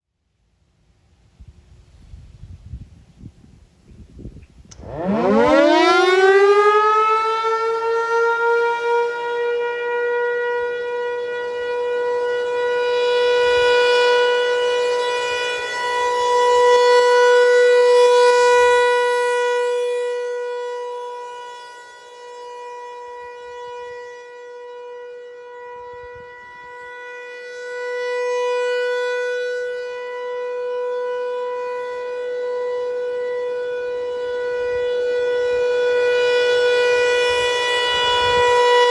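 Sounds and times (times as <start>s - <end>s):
warning siren: 4.2s - 38.9s.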